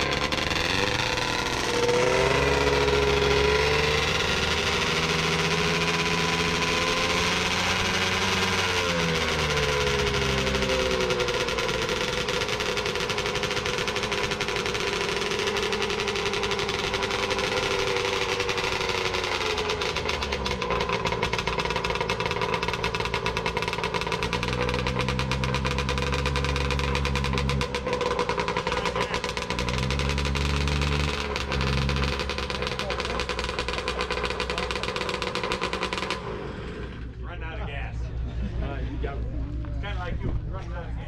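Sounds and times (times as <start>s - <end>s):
snowmobile engine revving: 0.0s - 41.0s.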